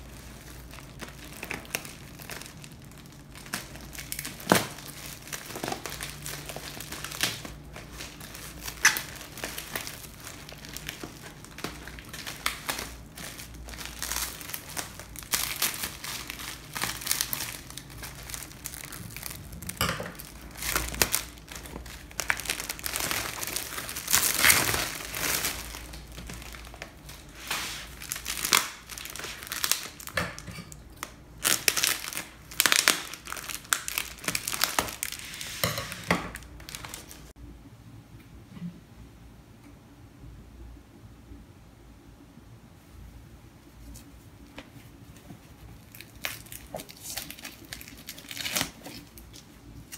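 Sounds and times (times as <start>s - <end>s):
plastic wrapping crinkling: 0.0s - 37.4s, 43.9s - 49.9s.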